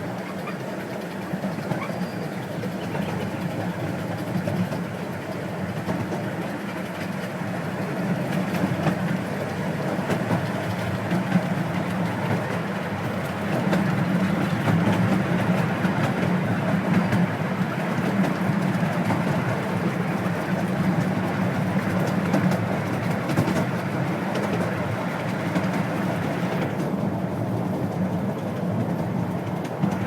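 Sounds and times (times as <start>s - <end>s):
steam train rumbling along track: 0.0s - 30.0s.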